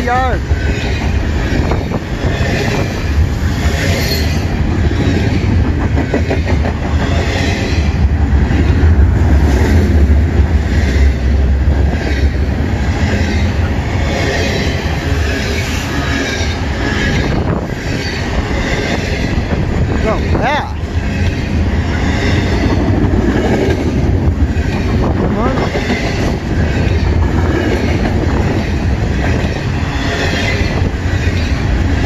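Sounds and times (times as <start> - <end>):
freight train rolling past: 0.0 - 32.0
steel wheels clattering on rails: 0.0 - 32.0.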